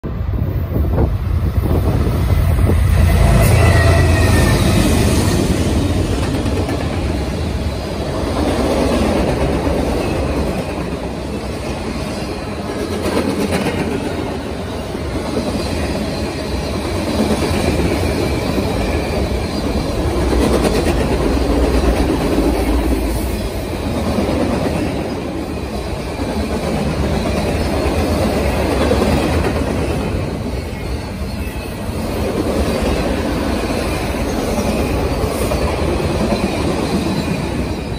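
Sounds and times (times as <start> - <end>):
diesel locomotives passing: 0.0 - 37.9
freight cars rolling on rails: 0.2 - 37.9.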